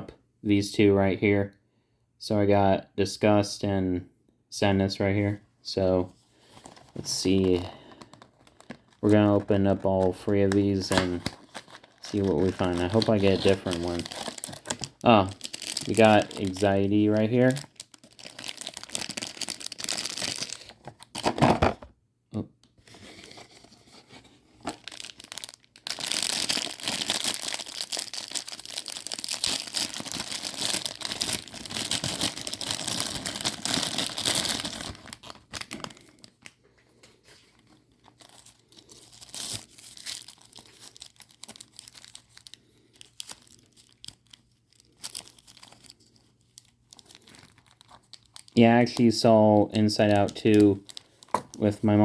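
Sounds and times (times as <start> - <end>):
packaging crinkling and tearing: 6.4 - 21.8, 24.6 - 36.6, 37.4 - 52.0.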